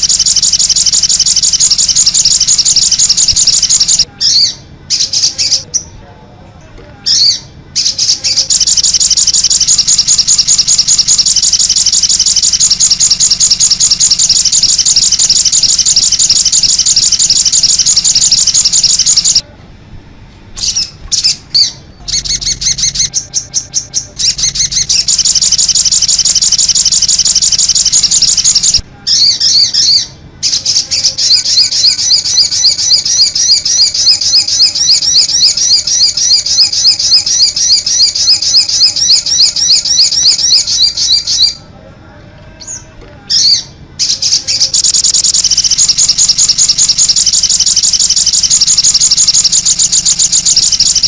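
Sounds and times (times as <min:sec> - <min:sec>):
bird chattering: 0:00.0 - 0:05.9, 0:07.1 - 0:19.4, 0:20.6 - 0:41.6, 0:42.7 - 0:51.0.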